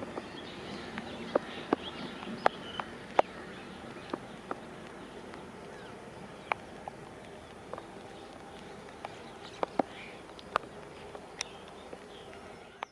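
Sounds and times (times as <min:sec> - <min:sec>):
sharp irregular clicks: 0:00.0 - 0:12.9
steady background hiss: 0:00.0 - 0:12.9.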